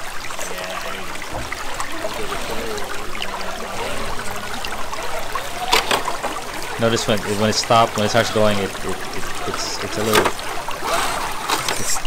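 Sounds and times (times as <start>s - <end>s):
creek water trickling over rocks: 0.0s - 12.0s.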